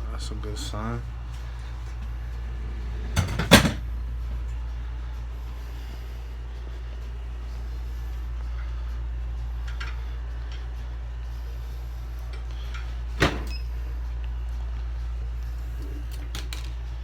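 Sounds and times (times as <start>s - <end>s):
heat press electrical hum: 0.0s - 17.0s.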